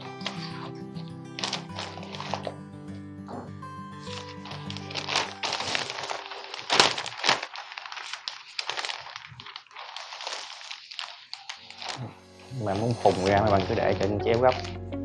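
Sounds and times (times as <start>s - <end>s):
wrapping paper crinkling: 0.0s - 2.6s, 4.0s - 14.8s.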